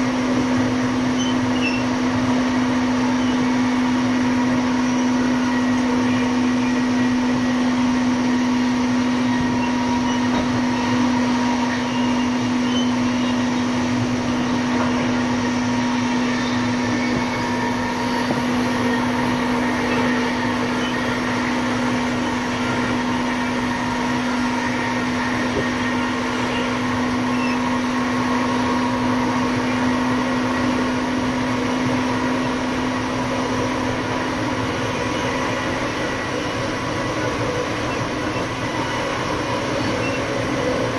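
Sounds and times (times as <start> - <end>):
diesel locomotive engine droning: 0.0 - 40.9.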